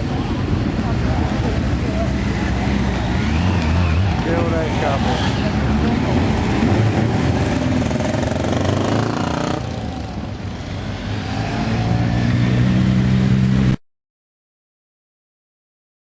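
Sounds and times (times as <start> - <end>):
motorcycles riding past: 0.0 - 13.8.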